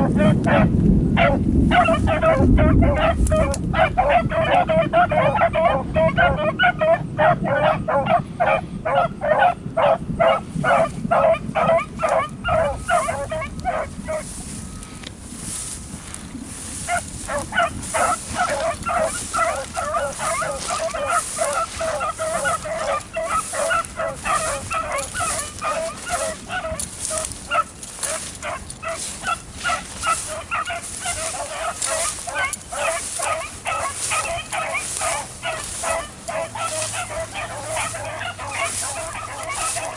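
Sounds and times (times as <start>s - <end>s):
dogs baying and yelping: 0.0s - 14.6s, 15.5s - 39.9s.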